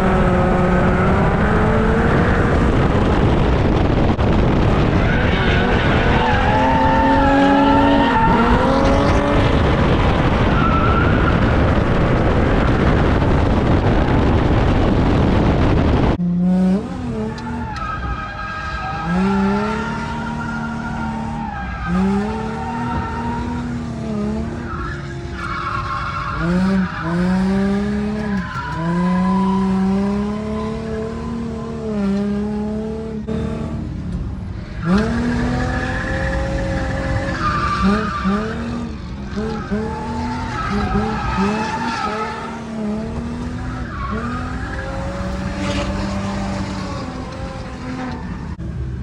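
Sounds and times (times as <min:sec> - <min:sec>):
tyres skidding and squealing: 0:00.0 - 0:15.5, 0:16.2 - 0:49.0
car engine revving: 0:00.0 - 0:49.0.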